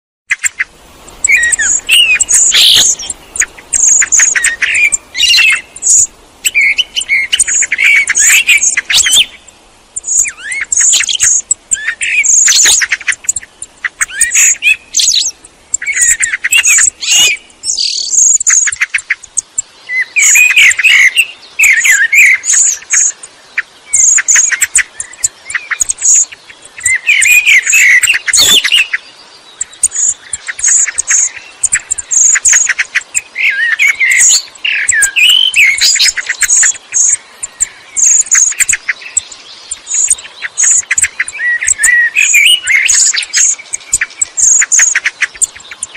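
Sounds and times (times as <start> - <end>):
blackbird singing: 0.3 - 45.9.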